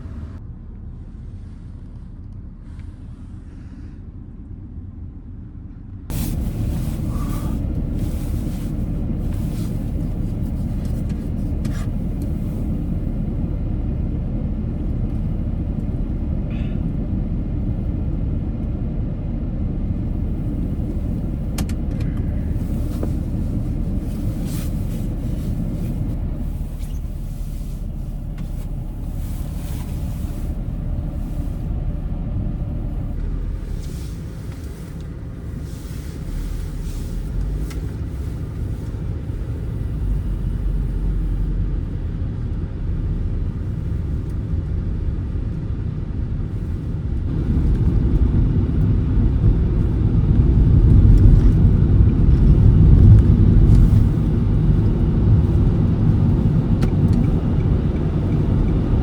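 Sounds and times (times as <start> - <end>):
tyres and engine rumble: 0.0 - 59.0.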